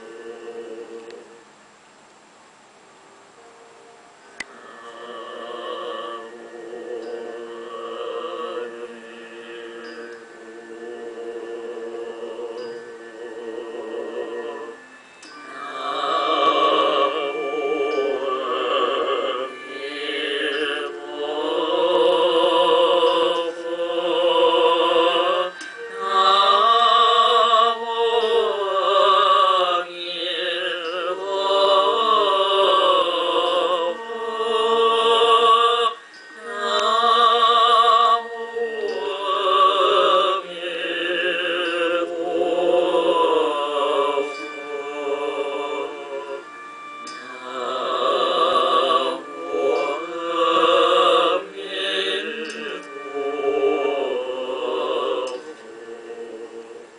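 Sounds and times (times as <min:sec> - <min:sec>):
slow song with vibrato singing: 0:00.0 - 0:56.9.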